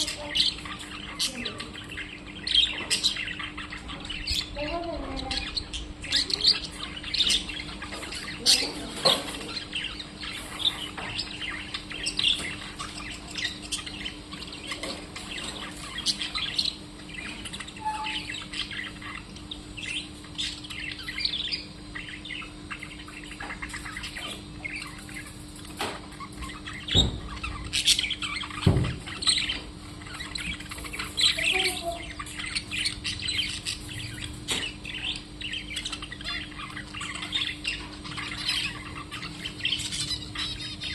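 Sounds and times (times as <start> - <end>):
small birds chirping: 0.0 - 40.9
steady low hum: 0.0 - 40.9.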